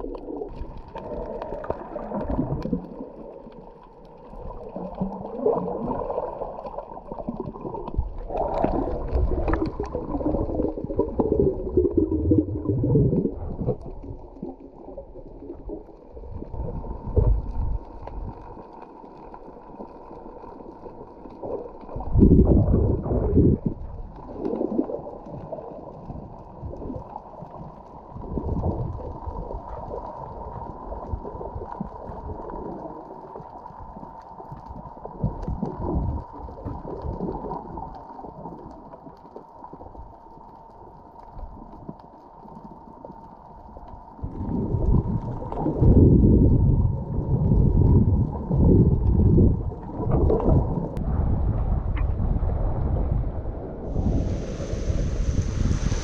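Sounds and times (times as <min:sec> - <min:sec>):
muffled underwater water sloshing: 0:00.0 - 0:56.0.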